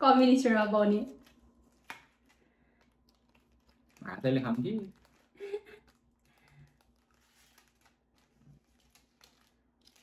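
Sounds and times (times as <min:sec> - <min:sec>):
plastic wrapping crinkling: 0:00.9 - 0:10.0.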